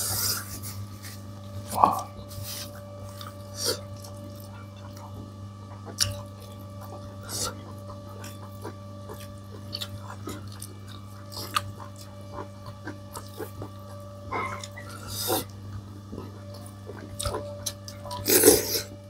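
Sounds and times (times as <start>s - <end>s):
steady low hum: 0.0s - 19.0s
chewing: 0.1s - 19.0s.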